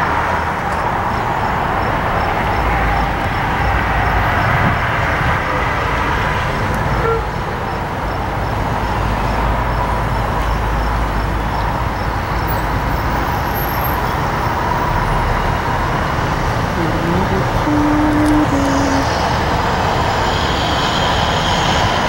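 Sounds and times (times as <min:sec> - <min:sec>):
diesel trains rumbling: 0:00.0 - 0:22.0
road traffic noise: 0:00.0 - 0:22.0.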